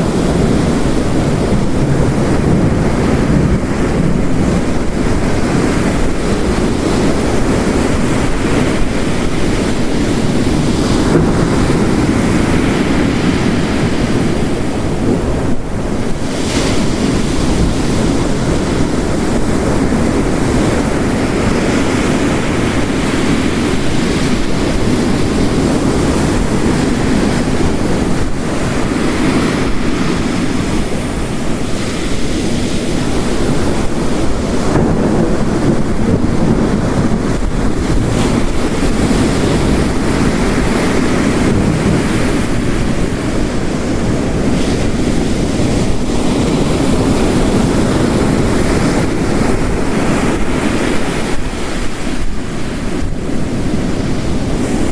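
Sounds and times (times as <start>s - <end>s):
heavy rain: 0.0s - 54.9s
ocean waves crashing: 0.0s - 54.9s.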